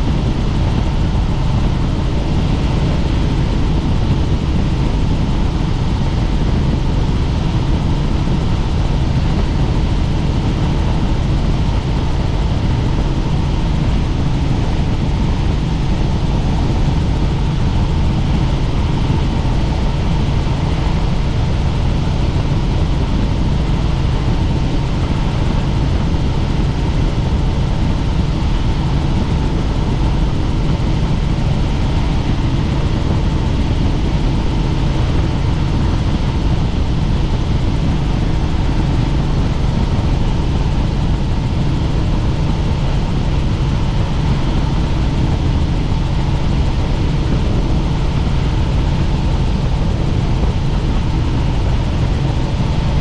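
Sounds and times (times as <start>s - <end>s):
faint constant whine: 0.0s - 53.0s
helicopter engine and rotor: 0.0s - 53.0s.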